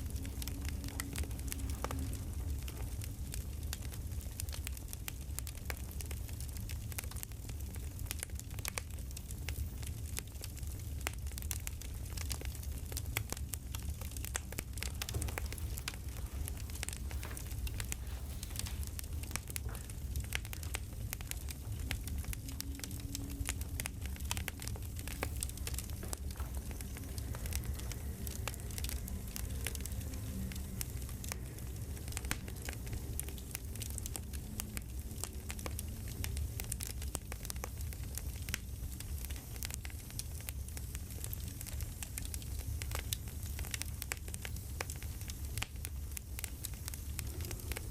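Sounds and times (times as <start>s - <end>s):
campfire crackling and popping: 0.0s - 47.9s
low rumble of fire: 0.0s - 47.9s.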